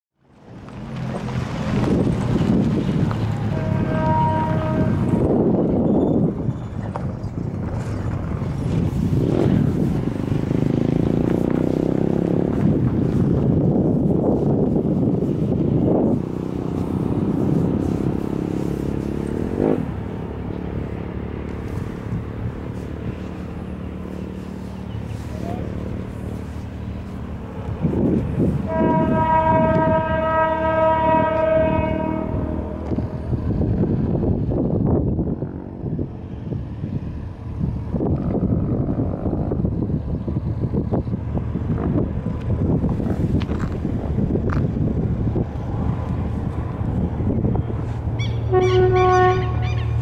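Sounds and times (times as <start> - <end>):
diesel locomotive engine droning: 0.2 - 50.0
wind buffeting microphone: 0.5 - 50.0.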